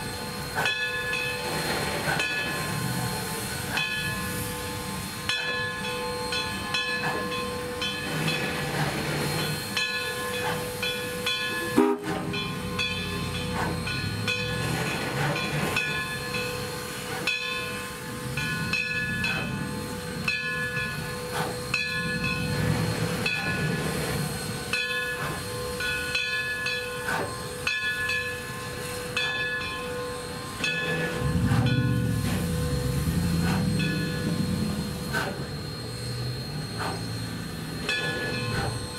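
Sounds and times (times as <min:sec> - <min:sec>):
low locomotive rumble: 0:00.0 - 0:38.9
steam hissing: 0:00.0 - 0:38.9.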